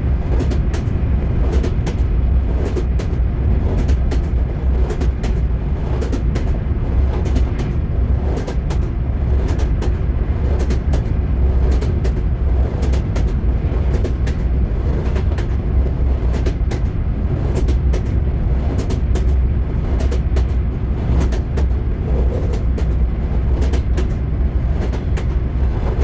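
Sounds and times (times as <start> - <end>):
train wheels clattering: 0.1 - 26.0.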